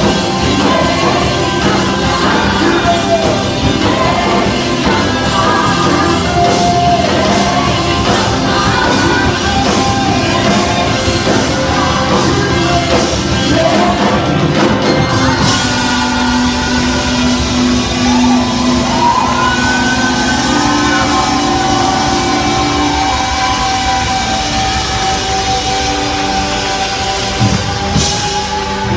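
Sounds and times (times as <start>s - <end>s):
voices singing: 0.0s - 24.4s
worship band playing rock song: 0.0s - 28.9s.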